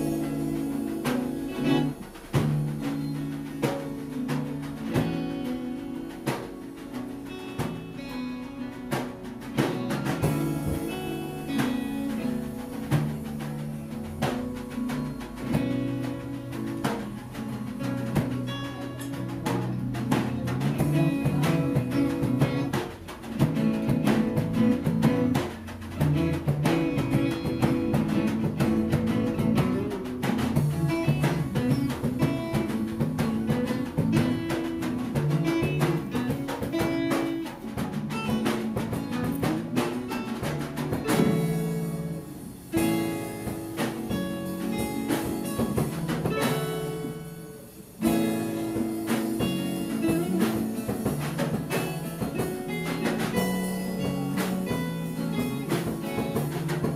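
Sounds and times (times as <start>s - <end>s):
acoustic guitars strummed and picked: 0.0s - 56.9s
bass: 0.0s - 56.9s
light percussion with cymbal: 0.0s - 56.9s.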